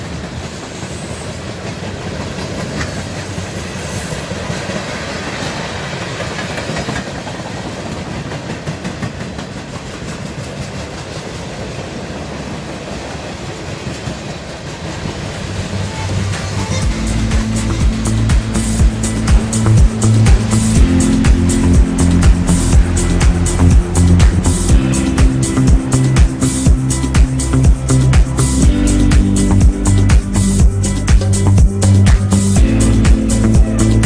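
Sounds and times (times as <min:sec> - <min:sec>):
wheels clickety-clack over rail joints: 0:00.0 - 0:29.3
steel wheels rumbling on rail: 0:00.0 - 0:34.0.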